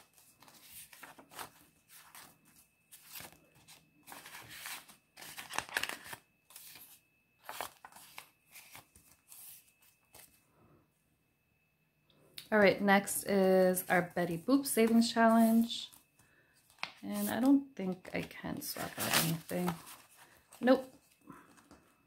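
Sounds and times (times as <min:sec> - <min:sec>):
banknotes and plastic envelopes rustling: 0:00.0 - 0:10.4, 0:13.7 - 0:21.8.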